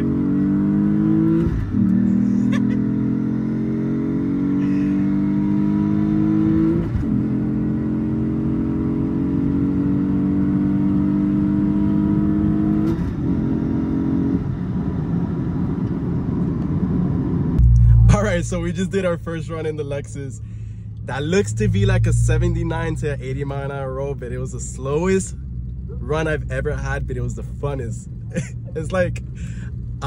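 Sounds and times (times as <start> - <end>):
car engine accelerating hard: 0.0 - 30.0.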